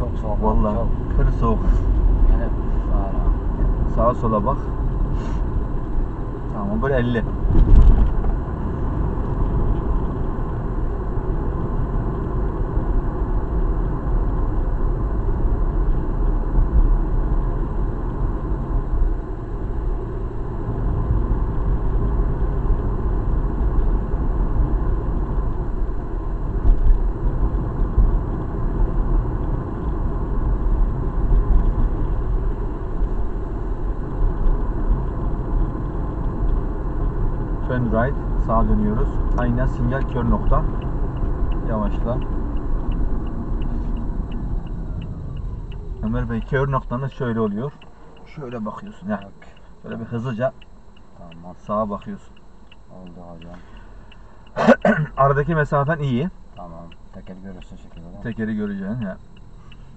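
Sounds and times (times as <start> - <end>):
low engine hum: 0.0 - 59.9.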